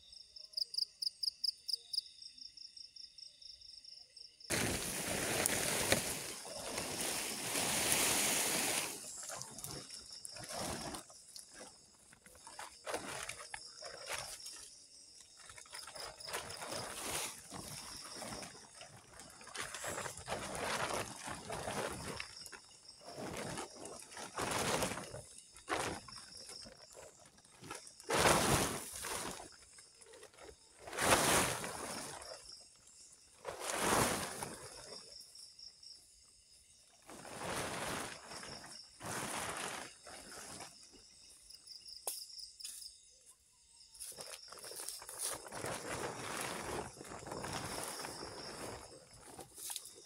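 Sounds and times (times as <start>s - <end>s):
insects chirping: 0.0s - 50.0s
plastic tarp rustling and crinkling: 4.5s - 35.3s, 36.9s - 41.5s, 44.0s - 50.0s.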